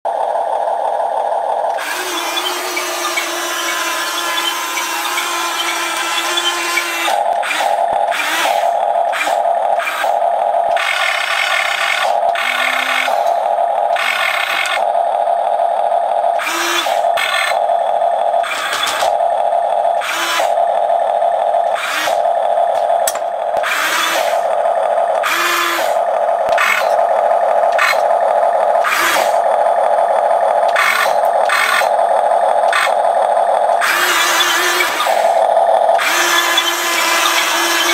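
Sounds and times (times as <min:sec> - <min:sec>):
steady hum: 0:00.1 - 0:37.9
toy gear motors whirring: 0:01.6 - 0:37.9.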